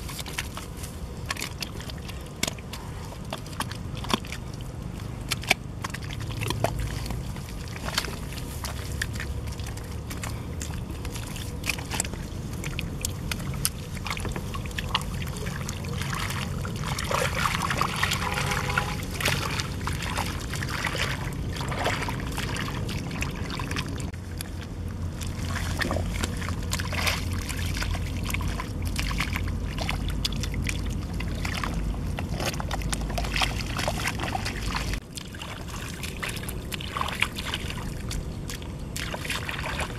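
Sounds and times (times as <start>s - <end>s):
hands squelching wet mud: 0.0s - 39.9s
steady low rumble: 0.0s - 39.9s
water sloshing and splashing: 0.0s - 39.9s.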